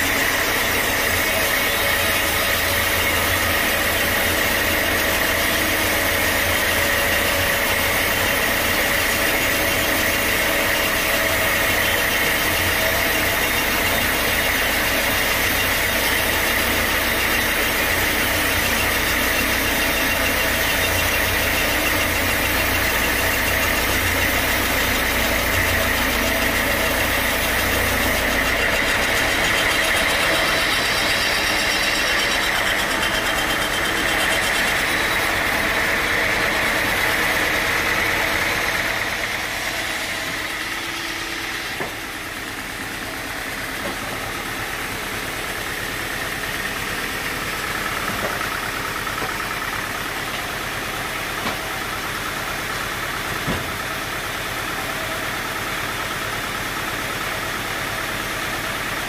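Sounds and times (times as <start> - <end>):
high machine whine: 0.0 - 55.8
engine drone: 0.0 - 58.9.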